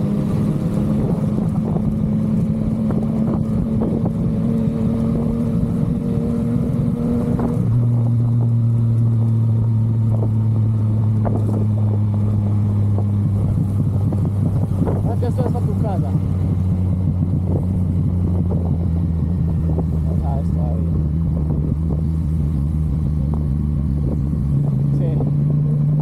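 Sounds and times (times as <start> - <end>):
motorcycle engine running: 0.0 - 26.0
road and wind rush: 0.0 - 26.0.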